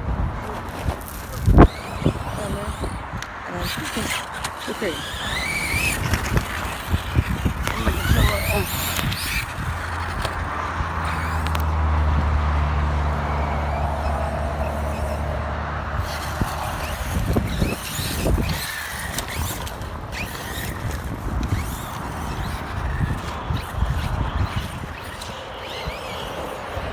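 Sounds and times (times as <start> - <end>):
toy trucks revving on dirt: 0.0 - 26.9
steady low hum: 1.5 - 24.9.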